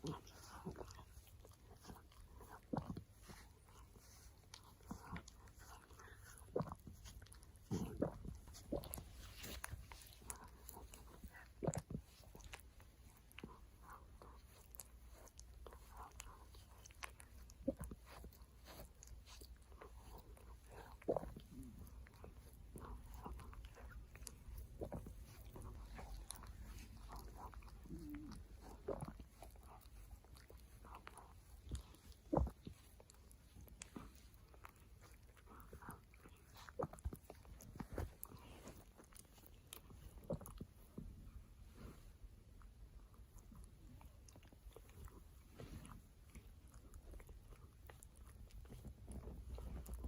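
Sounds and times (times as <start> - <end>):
dog licking skin: 0.0 - 50.0.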